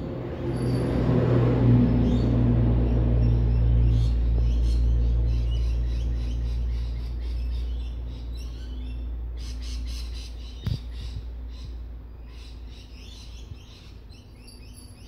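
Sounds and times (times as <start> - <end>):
small birds chirping: 2.0 - 15.0.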